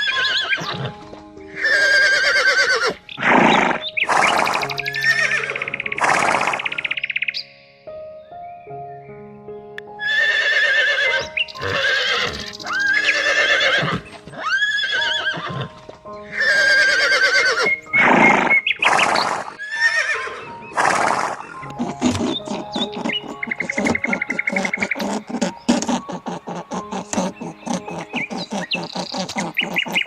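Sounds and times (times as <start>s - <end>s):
horses neighing: 0.0s - 6.9s, 10.0s - 30.0s
background music: 0.0s - 30.0s.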